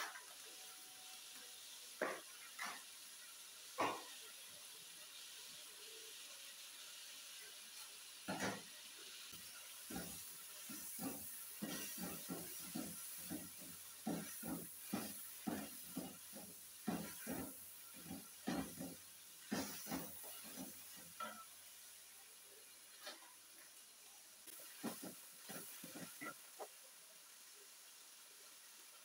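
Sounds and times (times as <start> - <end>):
meat sizzling in a pot: 0.0 - 29.0.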